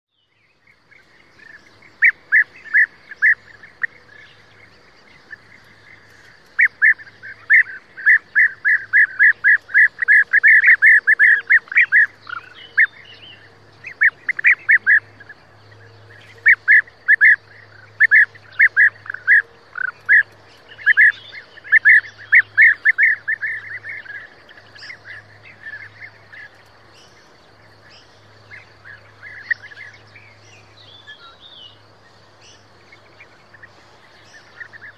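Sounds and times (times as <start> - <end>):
bird calling: 0.1 - 34.9.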